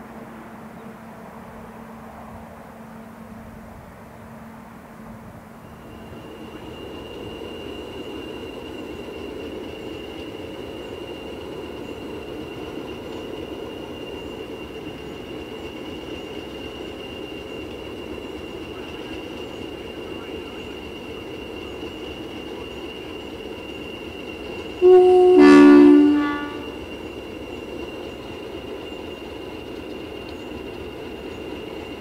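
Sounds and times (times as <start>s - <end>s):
train rumbling: 0.0s - 32.0s
high-pitched whine: 5.6s - 32.0s.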